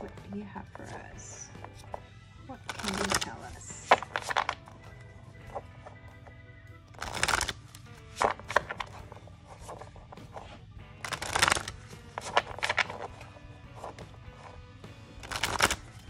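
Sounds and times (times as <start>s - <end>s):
cards being shuffled: 0.0s - 16.0s
soft background music: 0.0s - 16.0s.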